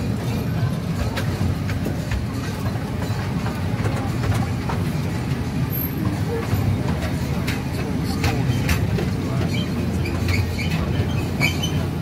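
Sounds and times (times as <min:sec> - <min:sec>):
ride train rumbling on track: 0:00.0 - 0:12.0
sharp clicks from wheels: 0:00.0 - 0:12.0.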